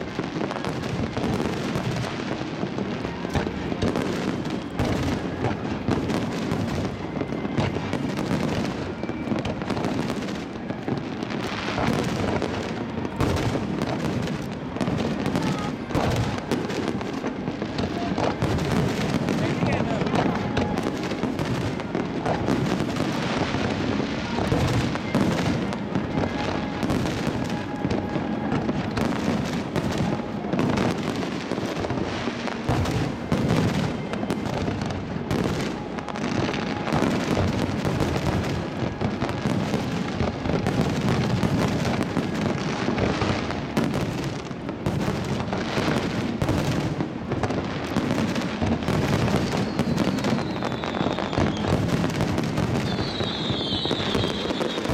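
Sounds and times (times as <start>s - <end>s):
aerial fireworks bangs and crackles: 0.0s - 54.9s.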